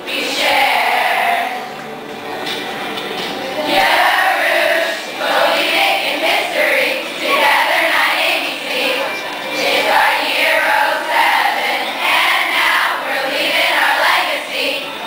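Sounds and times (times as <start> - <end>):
children singing together: 0.0 - 1.8, 3.6 - 15.0.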